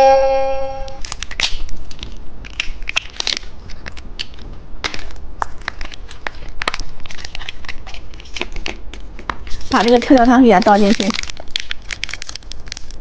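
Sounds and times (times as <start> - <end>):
plastic packaging crinkling: 1.0 - 13.0.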